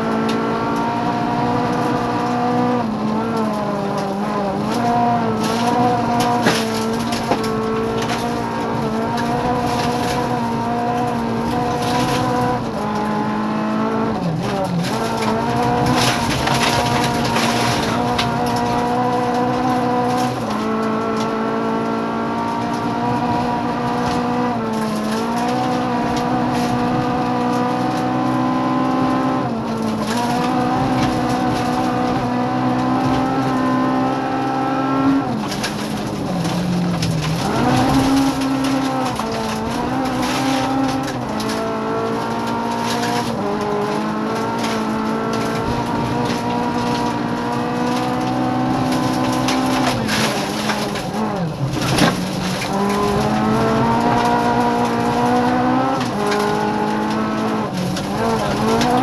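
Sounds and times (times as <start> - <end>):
rally car engine running hard: 0.0 - 59.0.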